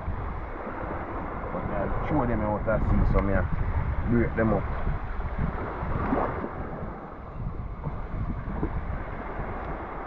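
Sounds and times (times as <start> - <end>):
sea waves washing: 0.0 - 10.0
wind buffeting microphone: 0.0 - 10.0.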